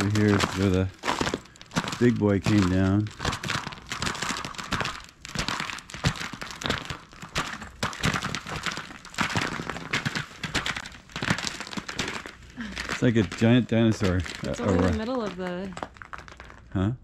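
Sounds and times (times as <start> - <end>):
footsteps crunching on icy snow: 0.0 - 16.2.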